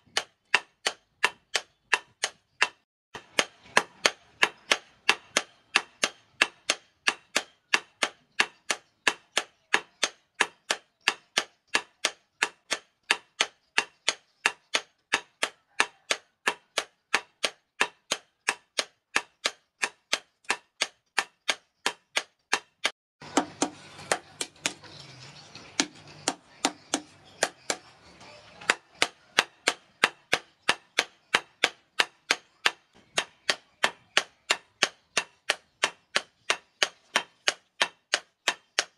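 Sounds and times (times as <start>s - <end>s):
hammer striking metal on anvil: 0.0s - 24.8s, 25.8s - 38.9s.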